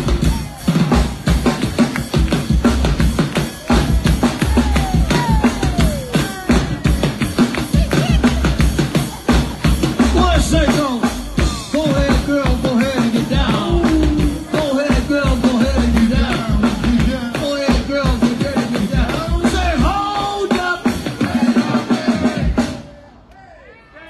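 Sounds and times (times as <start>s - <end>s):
live band drums and congas: 0.0s - 22.9s
voices singing: 0.0s - 24.0s.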